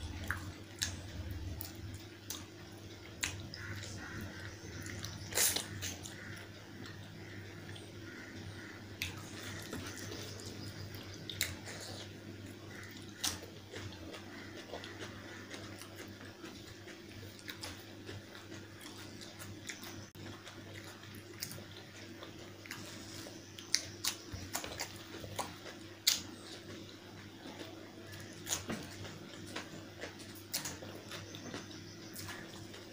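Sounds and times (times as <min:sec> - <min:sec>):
steady low hum: 0:00.0 - 0:32.9
chewing and mouth clicks: 0:00.1 - 0:32.9.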